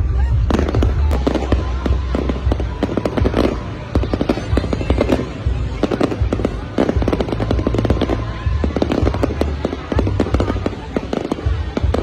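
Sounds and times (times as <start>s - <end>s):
fireworks bursting with crackle: 0.0s - 12.0s.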